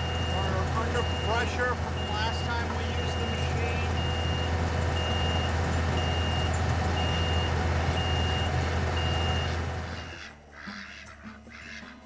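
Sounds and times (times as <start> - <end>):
backup alarm beeping: 0.0 - 10.2
diesel engine running: 0.0 - 10.3.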